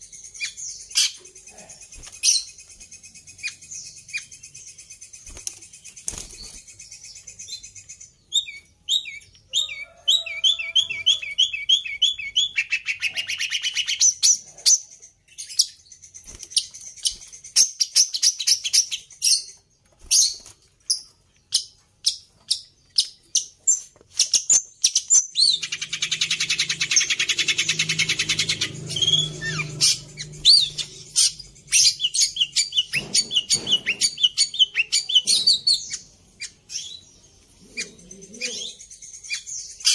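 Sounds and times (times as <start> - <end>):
mimicked bird calls: 0.0 - 4.6, 5.2 - 15.6, 21.5 - 39.9
bird singing varied song: 0.0 - 39.9.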